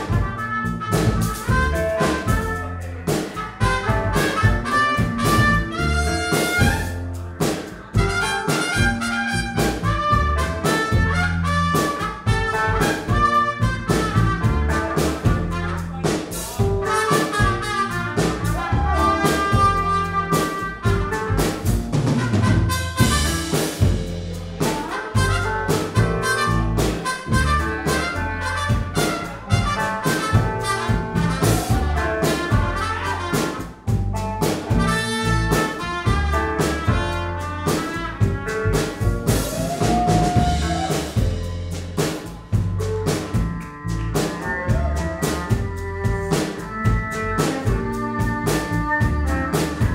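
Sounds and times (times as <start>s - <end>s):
live band playing: 0.0s - 49.9s
trumpet lead notes: 0.0s - 49.9s.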